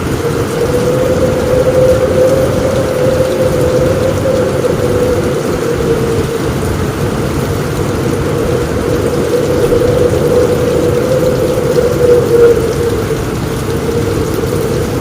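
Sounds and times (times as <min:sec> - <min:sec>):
heavy rain on a roof: 0:00.0 - 0:15.0.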